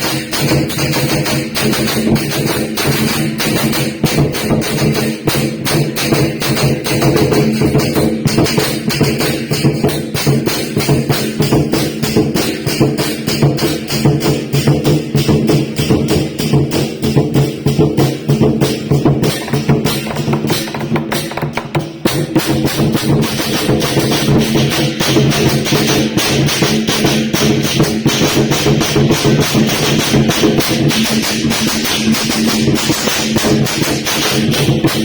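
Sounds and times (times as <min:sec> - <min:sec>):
cymbals clashing: 0:00.0 - 0:35.0
drum beating: 0:00.0 - 0:35.0.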